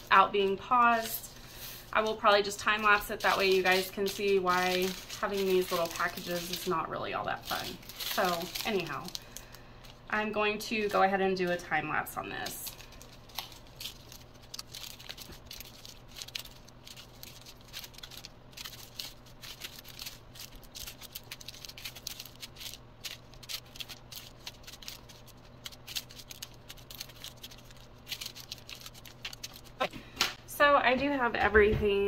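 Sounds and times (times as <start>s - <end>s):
plastic bags crinkling: 0.0s - 29.9s
faint steady hum: 0.0s - 32.0s
beads rattling in bags: 0.1s - 10.1s, 12.2s - 29.8s.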